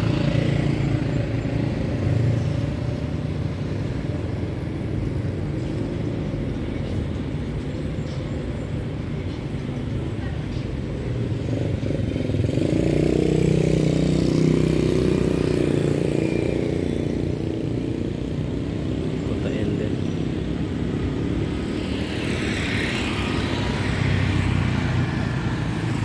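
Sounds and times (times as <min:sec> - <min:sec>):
motorcycles passing: 0:00.0 - 0:26.0.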